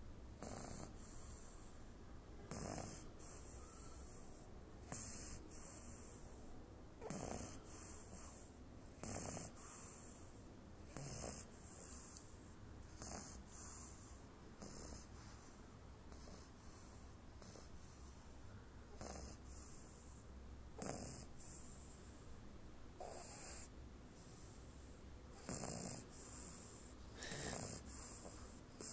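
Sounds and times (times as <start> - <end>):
small dog snoring: 0.4 - 6.4, 7.0 - 22.2, 23.0 - 28.9.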